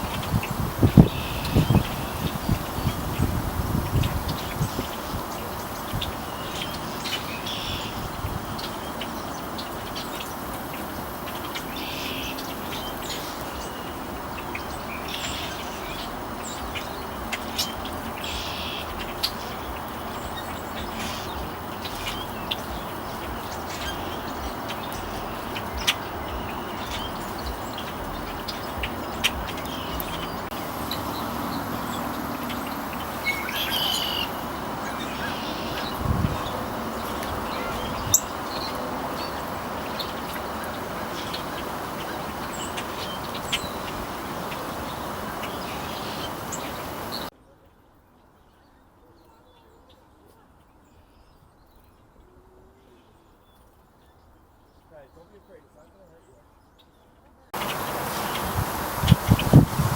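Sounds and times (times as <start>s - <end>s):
birds chirping: 0.0s - 47.3s, 57.6s - 59.9s
outdoor background hiss: 0.0s - 59.9s.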